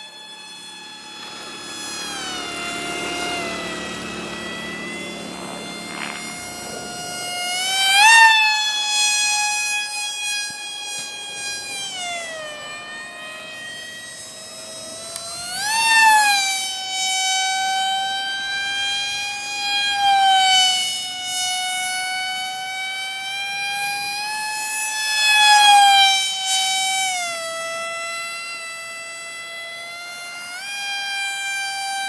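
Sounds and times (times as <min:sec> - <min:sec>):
rc airplane motor whining: 0:00.0 - 0:32.0.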